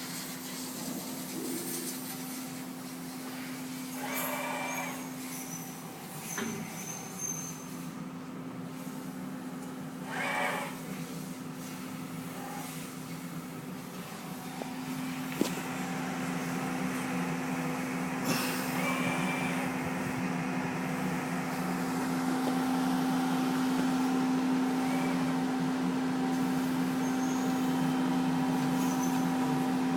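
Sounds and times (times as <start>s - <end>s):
machine mechanical hum: 0.0s - 29.9s.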